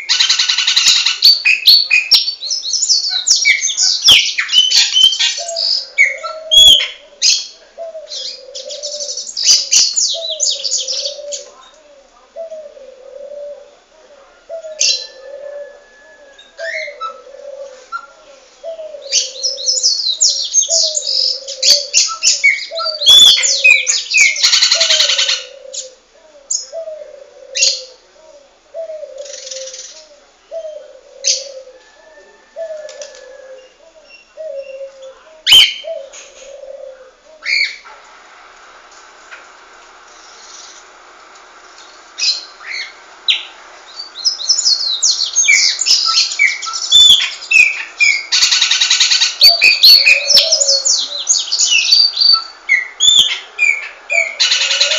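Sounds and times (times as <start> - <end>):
birds chirping: 0.0 - 38.2, 39.2 - 54.9
steady background hum: 5.4 - 54.9.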